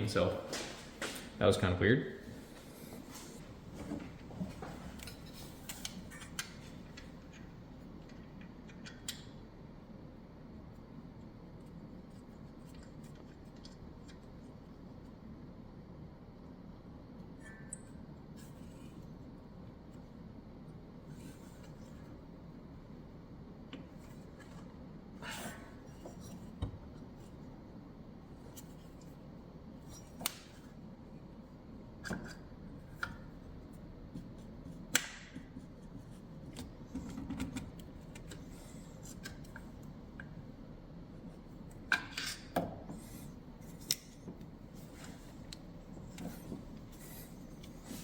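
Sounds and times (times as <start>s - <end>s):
low background hum: 0.0s - 48.0s.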